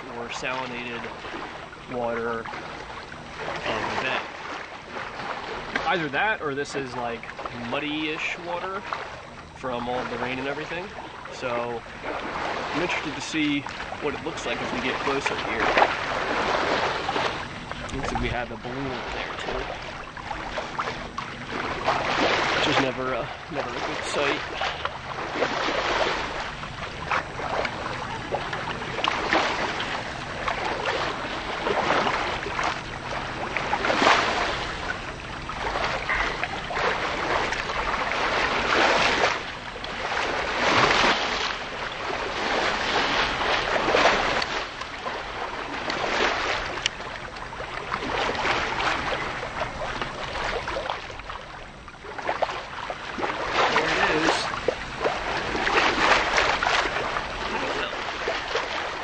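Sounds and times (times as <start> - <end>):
boat engine drone: 0.0 - 59.0
water splashing along boat hull: 0.0 - 59.0.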